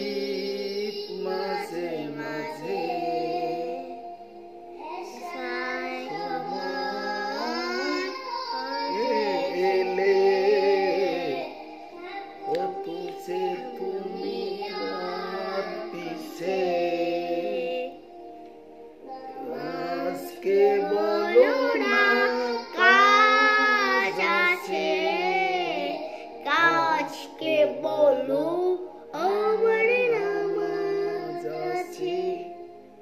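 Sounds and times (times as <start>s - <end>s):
boy and man singing: 0.0s - 4.1s, 4.8s - 18.0s, 19.1s - 32.6s.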